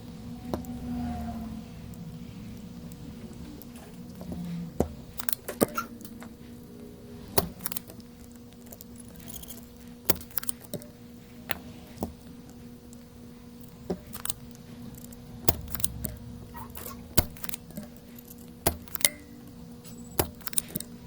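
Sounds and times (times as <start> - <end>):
low hum of bench equipment: 0.0 - 21.0.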